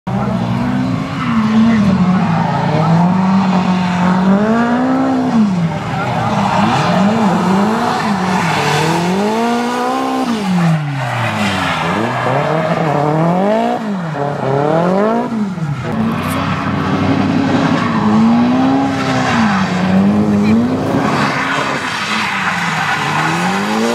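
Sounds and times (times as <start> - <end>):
car engine revving hard: 0.2 - 23.9.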